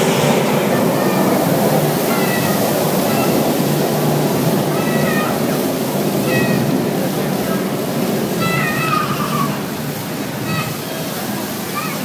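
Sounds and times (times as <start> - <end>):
fountain water jet rushing: 0.0 - 12.0.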